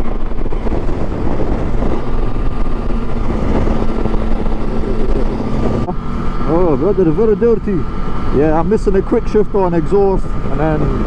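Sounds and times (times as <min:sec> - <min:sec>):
motorcycle engine running: 0:00.0 - 0:11.0
wind noise: 0:00.0 - 0:11.0
steady hum: 0:00.3 - 0:11.0.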